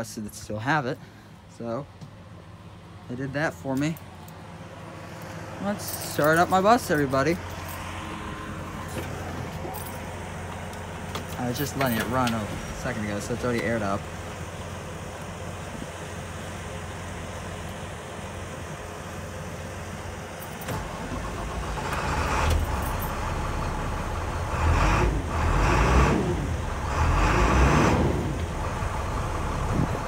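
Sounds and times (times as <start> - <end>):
diesel engine starting and running: 0.0 - 30.0.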